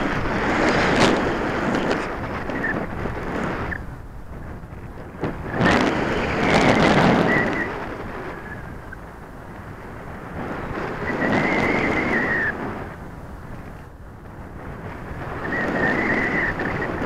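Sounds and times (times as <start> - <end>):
rush of air: 0.0 - 17.0
wind over camera: 0.0 - 17.0.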